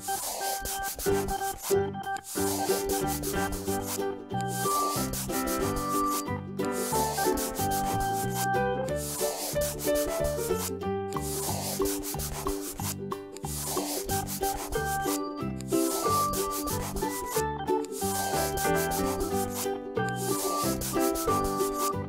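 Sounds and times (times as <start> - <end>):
instrumental background music: 0.0 - 22.0
scratchy rubbing noise: 0.0 - 22.0.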